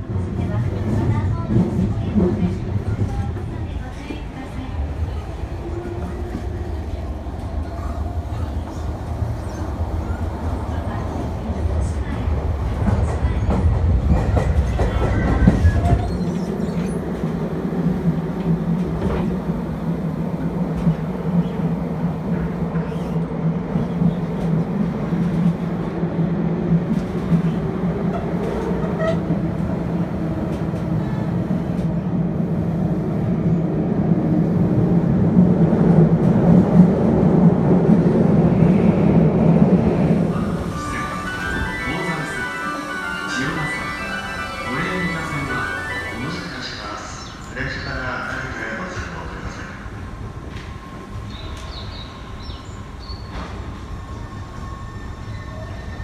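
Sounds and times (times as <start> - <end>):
heavy train rumble: 0.0 - 56.0
steady train hum: 0.0 - 56.0.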